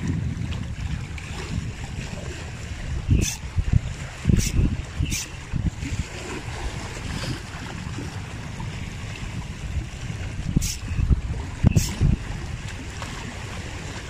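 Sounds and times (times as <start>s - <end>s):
sharp water splashes: 0.0s - 14.0s
waves lapping over rocks: 0.0s - 14.0s
wind rumbling on microphone: 0.0s - 14.0s.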